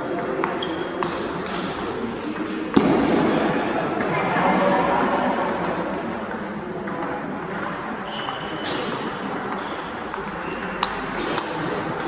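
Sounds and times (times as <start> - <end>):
murmur of sports hall: 0.0 - 12.0.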